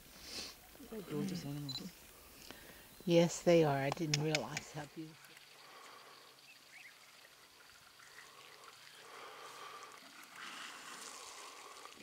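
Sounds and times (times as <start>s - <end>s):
faint trickling water: 0.6s - 12.0s.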